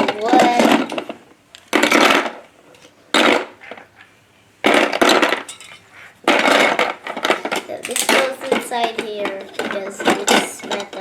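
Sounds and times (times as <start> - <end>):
toy tools clattering: 0.0 - 3.9, 4.7 - 11.0.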